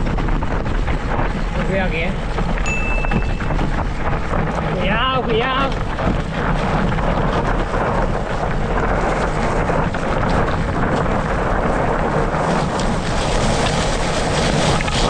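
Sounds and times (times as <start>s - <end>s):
bike tyres crunching on gravel: 0.0s - 15.0s
wind noise on microphone: 0.0s - 15.0s.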